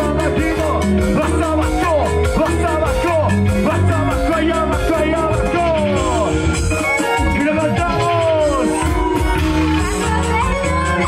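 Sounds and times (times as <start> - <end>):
loud band music: 0.0 - 11.0.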